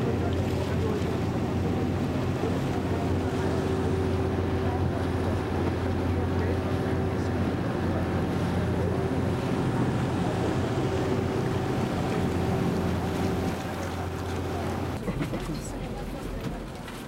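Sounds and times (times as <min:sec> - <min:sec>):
boat engine droning: 0:00.0 - 0:17.0
water rushing along hull: 0:00.0 - 0:17.0.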